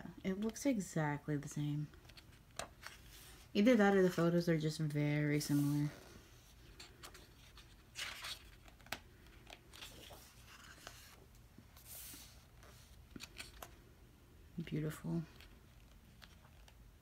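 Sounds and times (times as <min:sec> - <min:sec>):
book pages rustling and turning: 0:01.8 - 0:13.9, 0:15.2 - 0:17.0.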